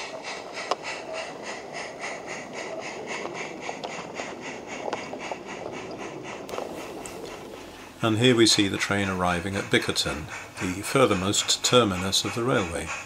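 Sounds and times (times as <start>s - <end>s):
model train wheels rumbling: 0.0s - 13.0s
pulsing hiss: 0.0s - 13.0s.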